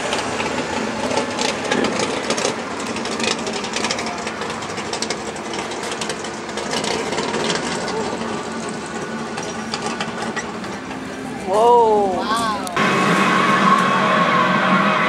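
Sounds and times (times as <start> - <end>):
drag racing car engines at full throttle: 0.0 - 15.0.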